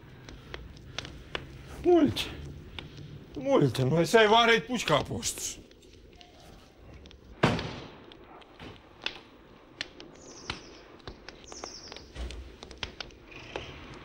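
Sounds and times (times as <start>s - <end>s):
faint clicks and cracks: 0.0s - 14.0s.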